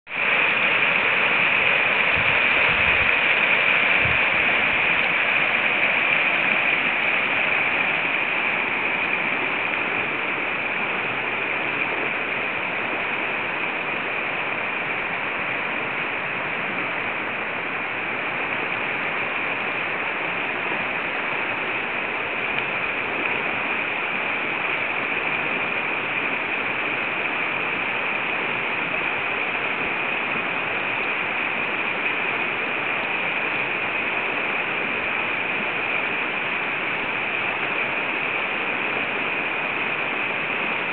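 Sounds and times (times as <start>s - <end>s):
river rushing over rapids: 0.1s - 40.9s.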